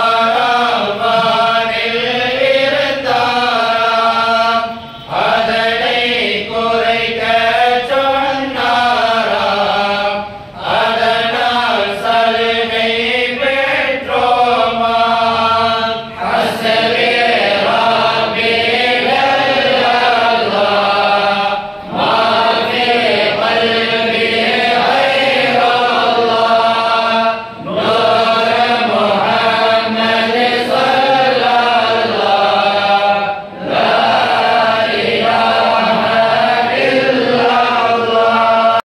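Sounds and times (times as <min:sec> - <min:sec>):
men chanting in unison: 0:00.0 - 0:38.8.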